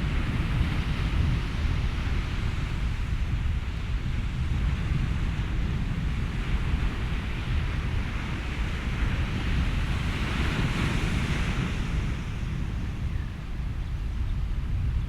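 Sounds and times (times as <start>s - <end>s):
ocean waves washing ashore: 0.0s - 15.0s
wind: 0.0s - 15.0s.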